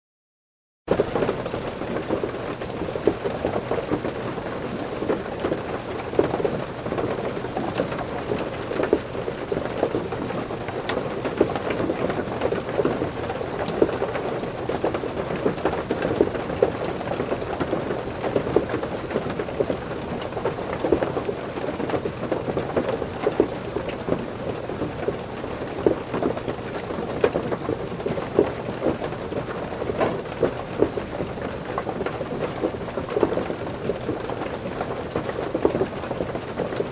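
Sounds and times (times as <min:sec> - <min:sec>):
heavy rain drumming on a roof: 0:00.9 - 0:36.9.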